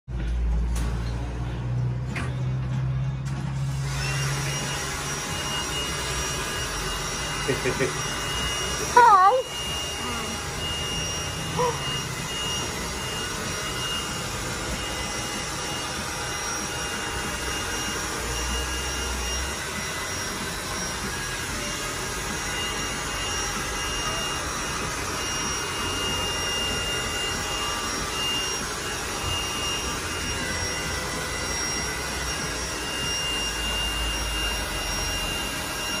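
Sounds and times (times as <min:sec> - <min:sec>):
hair dryer running: 0:00.2 - 0:36.0.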